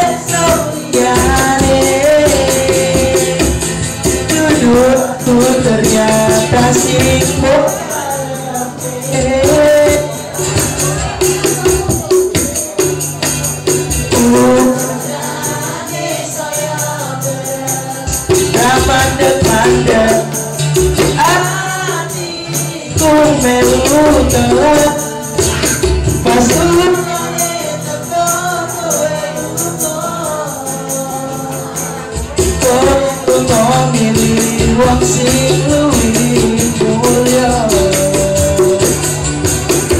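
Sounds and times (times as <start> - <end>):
man singing into microphone: 0.0 - 13.0, 14.0 - 39.4
acoustic guitar: 0.0 - 39.9
hand drum: 0.0 - 39.9
jingling rhythm: 0.0 - 39.9.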